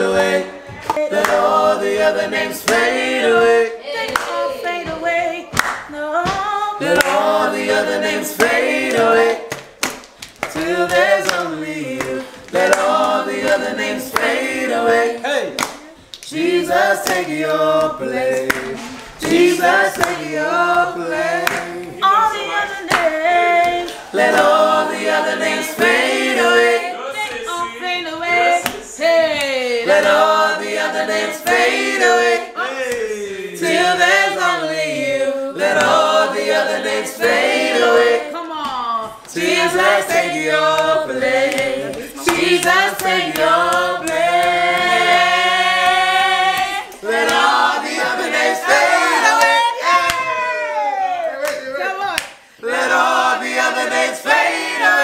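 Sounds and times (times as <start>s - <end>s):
group singing a cappella: 0.0s - 50.5s, 51.3s - 55.0s.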